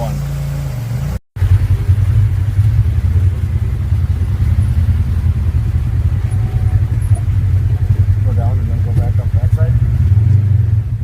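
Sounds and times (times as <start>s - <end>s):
off-road vehicle engine droning: 0.0s - 11.0s.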